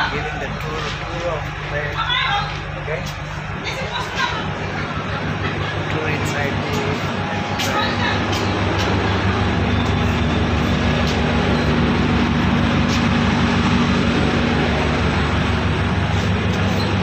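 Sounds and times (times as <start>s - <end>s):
low hum: 0.0s - 17.0s
train rumble inside coach: 0.0s - 17.0s.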